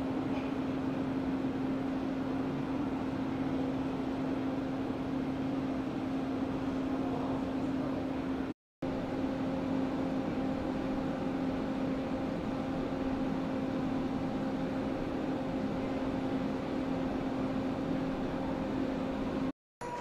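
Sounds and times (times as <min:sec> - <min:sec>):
electric train equipment hum: 0:00.0 - 0:20.0.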